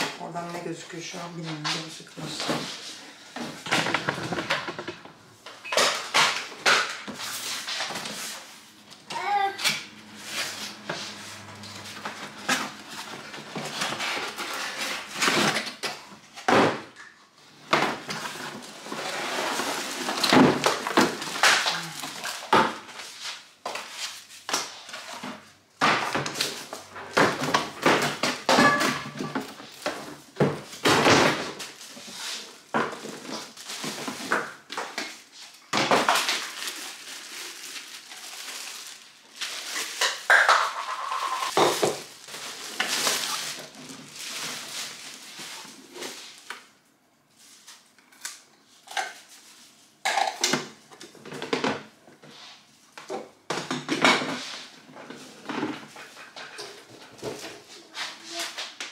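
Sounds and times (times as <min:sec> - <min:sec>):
cardboard and plastic rustling: 0:00.0 - 0:58.9.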